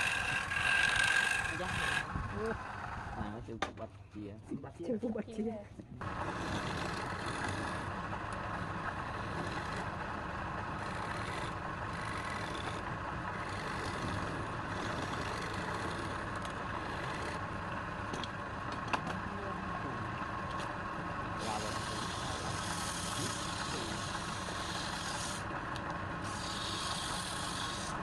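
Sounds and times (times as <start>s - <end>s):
woodturning lathe running: 0.0s - 3.3s, 6.0s - 28.0s.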